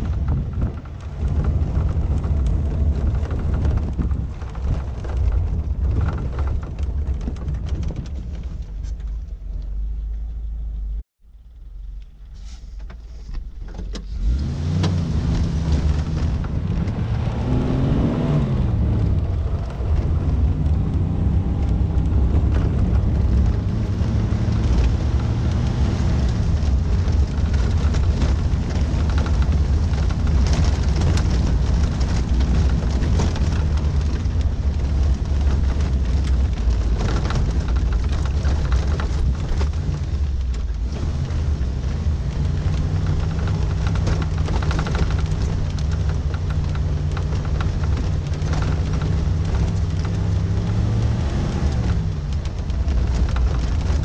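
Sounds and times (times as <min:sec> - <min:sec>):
body and suspension rattles: 0:00.0 - 0:54.0
car engine pulling: 0:00.0 - 0:54.0.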